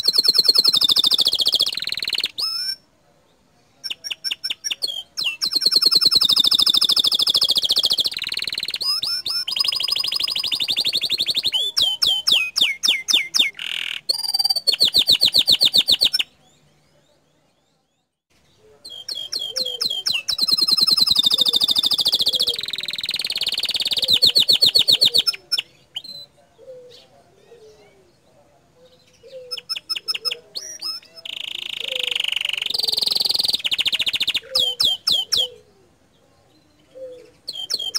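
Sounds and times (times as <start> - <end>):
canary singing: 0.0 - 2.8, 3.8 - 37.9.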